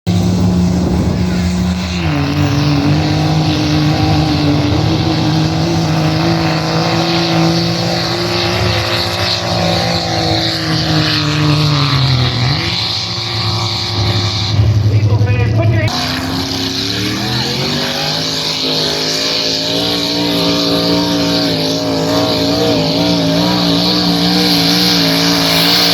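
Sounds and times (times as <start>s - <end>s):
vehicle engine running hard: 0.0s - 25.9s.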